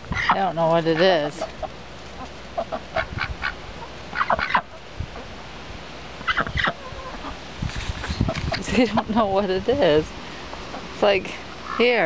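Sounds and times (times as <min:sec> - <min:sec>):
ducks quacking: 0:00.0 - 0:05.4, 0:06.2 - 0:07.4, 0:08.0 - 0:12.0
chickens clucking: 0:00.0 - 0:05.5, 0:06.1 - 0:12.0.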